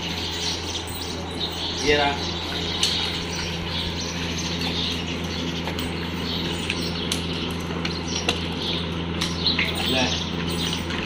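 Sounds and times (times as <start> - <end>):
birds chirping: 0.0 - 11.0
low hum: 0.0 - 11.0.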